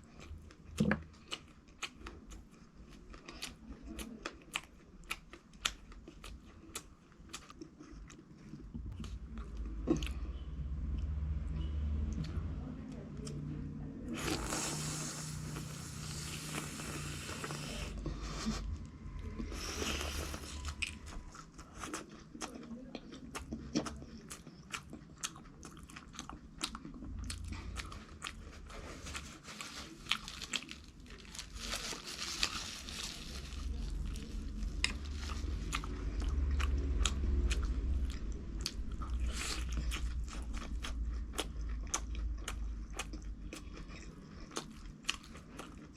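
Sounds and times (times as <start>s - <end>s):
person chewing crunchy food: 0.0s - 10.4s, 14.1s - 45.9s.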